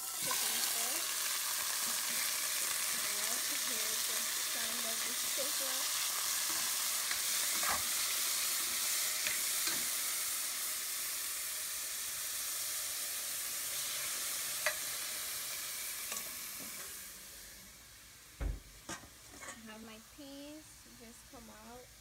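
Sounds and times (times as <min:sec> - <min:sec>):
chicken sizzling in hot oil: 0:00.0 - 0:18.4.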